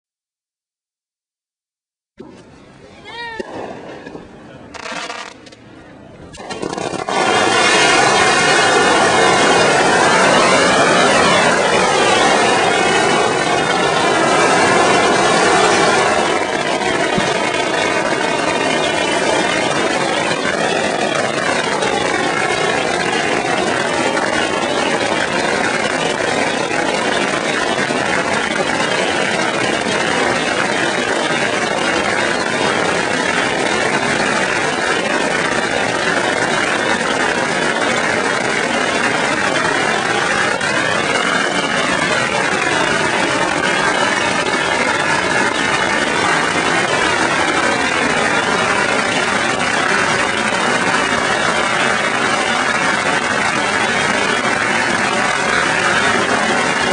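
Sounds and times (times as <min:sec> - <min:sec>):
firecrackers crackling: 0:02.2 - 0:56.9.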